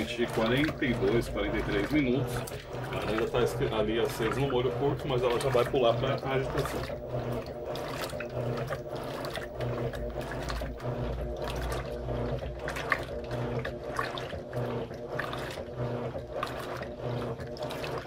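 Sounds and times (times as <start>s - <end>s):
pulsing motor hum: 0.0s - 18.0s
water sloshing in washing machine: 0.0s - 18.0s.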